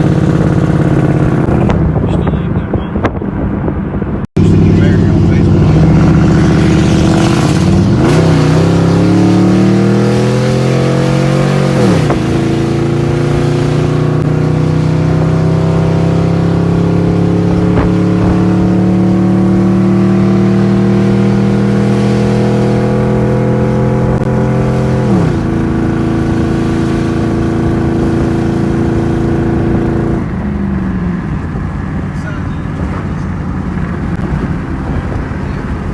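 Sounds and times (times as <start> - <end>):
vehicle engine under load: 0.0 - 35.9.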